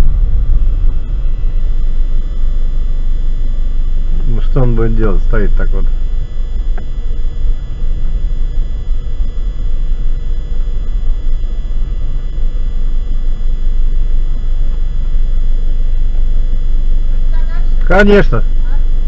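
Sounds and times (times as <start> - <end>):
car driving slowly rumble: 0.0 - 17.9.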